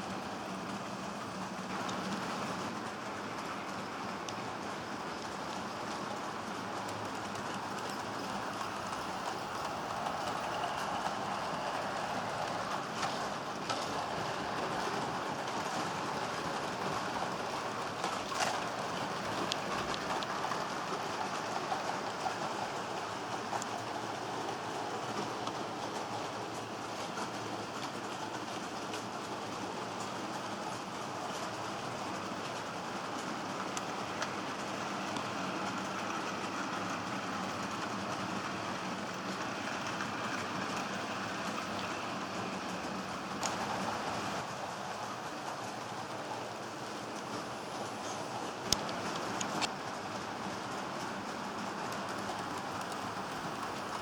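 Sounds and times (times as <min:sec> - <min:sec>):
model train rolling on track: 0:00.0 - 0:54.0
wheels clicking on rail joints: 0:00.0 - 0:54.0.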